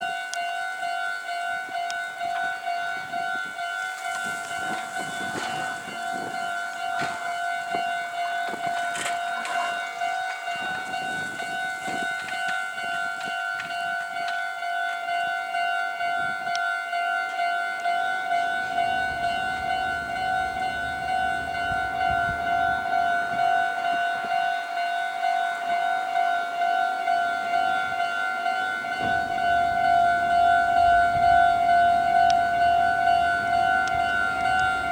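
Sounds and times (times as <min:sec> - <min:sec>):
electric train rumbling: 0:00.0 - 0:34.9
level crossing bell clanging: 0:00.0 - 0:34.9.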